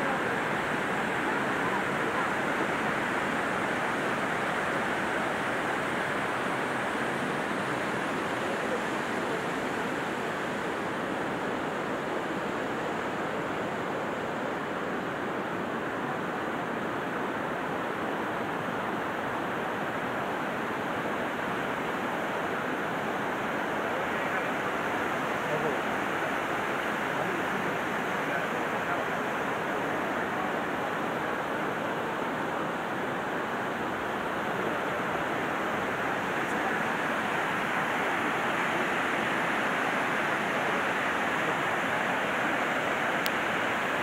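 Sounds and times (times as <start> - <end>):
river rushing over rocks: 0.0 - 44.0.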